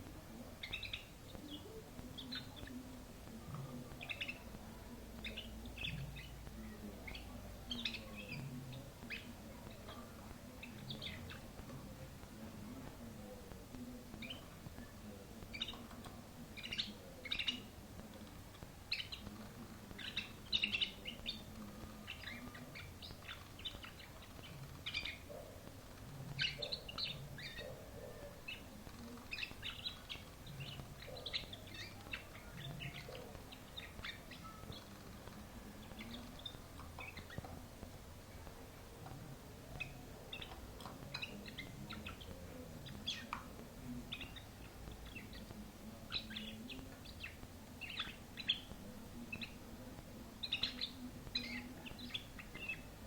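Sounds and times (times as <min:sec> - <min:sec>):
canary singing: 0:00.0 - 0:53.0.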